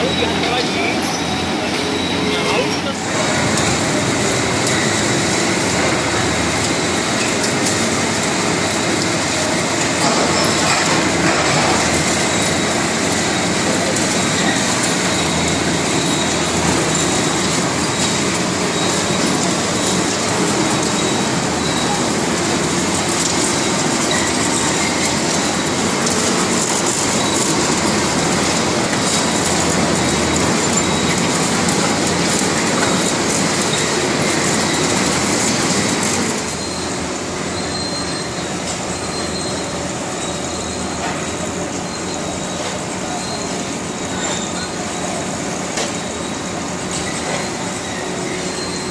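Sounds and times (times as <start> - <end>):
screening machinery clattering din: 0.1 - 39.6.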